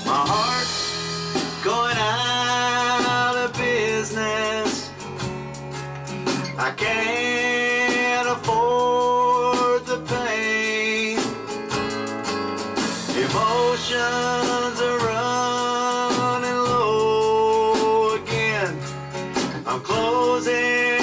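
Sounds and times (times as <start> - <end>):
country band playing: 0.0 - 21.0
electric bass: 0.0 - 21.0.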